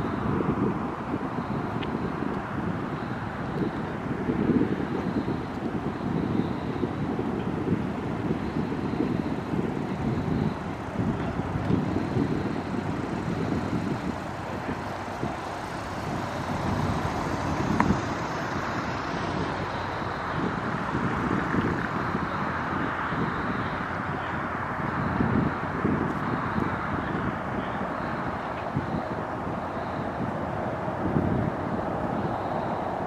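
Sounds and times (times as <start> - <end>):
distant jet roar: 0.0 - 33.0
wind rumble on microphone: 0.0 - 33.0.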